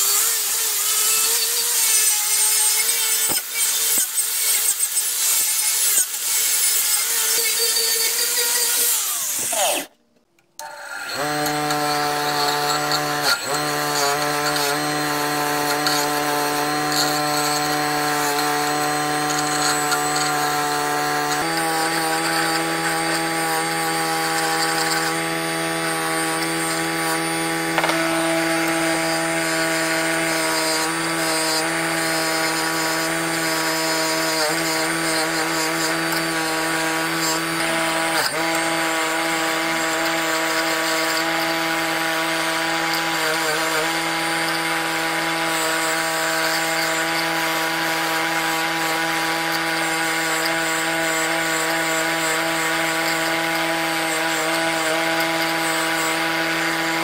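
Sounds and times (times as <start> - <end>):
power tool motor running: 0.0 - 10.0, 10.6 - 57.0.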